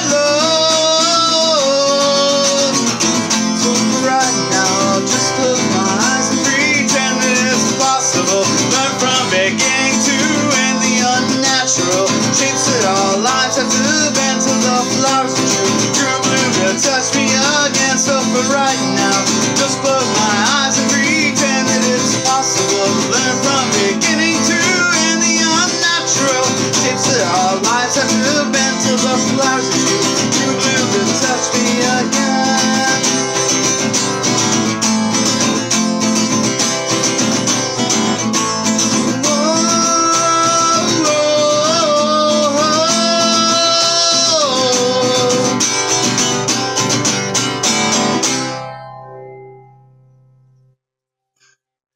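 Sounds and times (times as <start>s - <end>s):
acoustic guitar playing: 0.0s - 50.8s.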